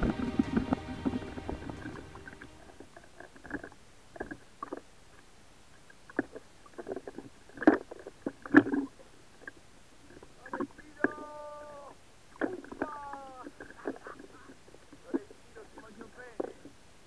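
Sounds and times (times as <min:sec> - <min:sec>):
muffled water lapping: 0:00.0 - 0:17.0.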